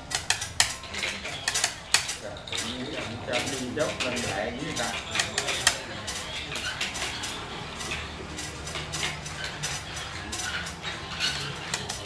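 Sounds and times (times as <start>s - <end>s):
game pieces clicking on wooden board: 0.0s - 12.0s.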